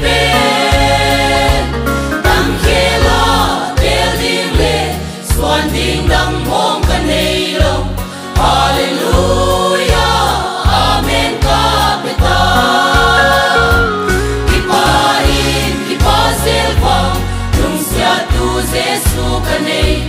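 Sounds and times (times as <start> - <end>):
instrumental backing with pulsing bass: 0.0 - 20.0
mixed choir singing a hymn: 0.0 - 20.0.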